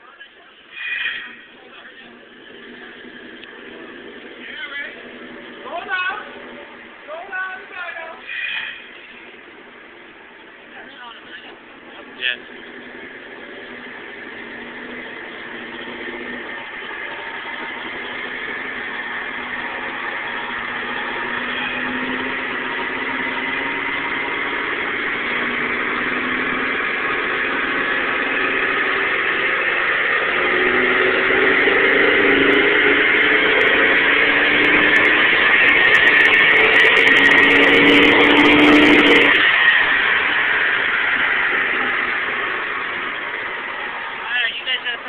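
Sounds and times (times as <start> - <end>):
car engine revving under load: 0.6 - 45.0.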